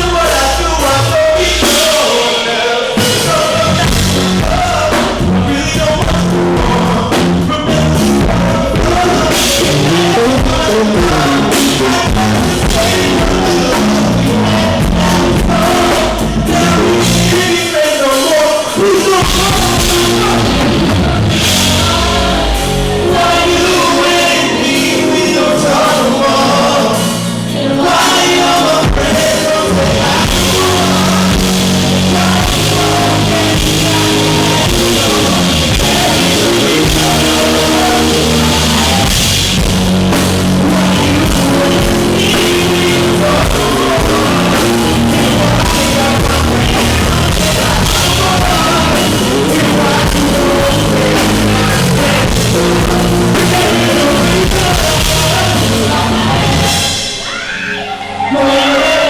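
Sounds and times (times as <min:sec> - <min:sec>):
distorted live band: 0:00.0 - 0:59.0.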